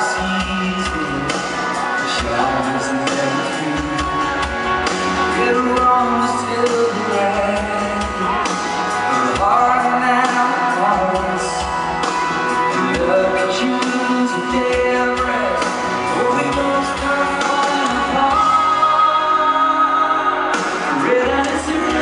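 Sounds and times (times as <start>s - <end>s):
country-rock band playing: 0.0s - 22.0s.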